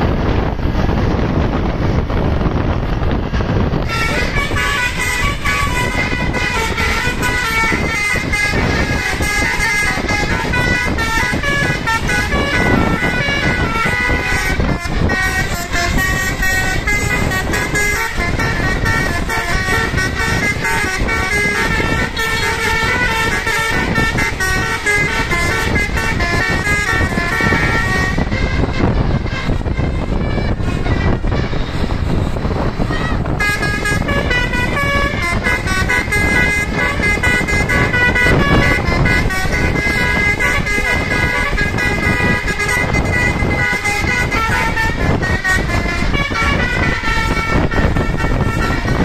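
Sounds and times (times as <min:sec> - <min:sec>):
bus and road noise: 0:00.0 - 0:49.0
bus horn playing a melody: 0:00.0 - 0:49.0.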